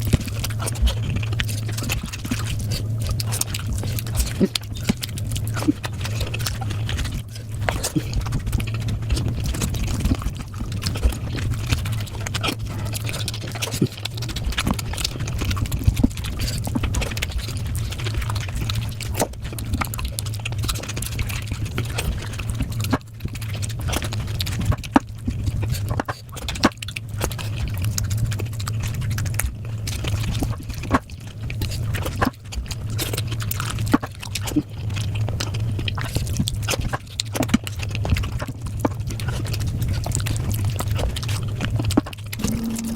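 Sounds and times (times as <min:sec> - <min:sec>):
chewing and biting: 0:00.0 - 0:42.9
steady low hum: 0:00.0 - 0:42.9.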